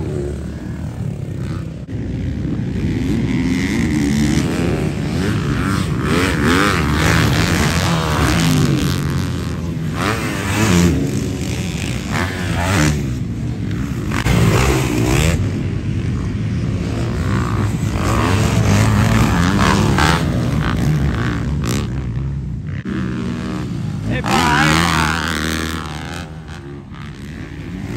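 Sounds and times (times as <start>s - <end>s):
dirt bike engines revving: 0.0s - 27.9s.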